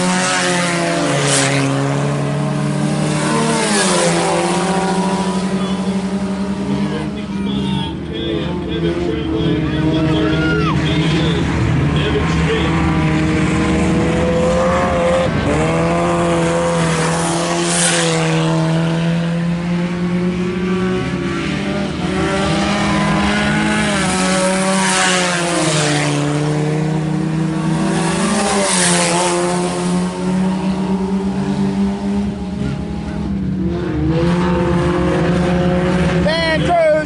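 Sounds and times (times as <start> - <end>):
cars passing close: 0.0 - 37.0
race car engines running: 0.0 - 37.0.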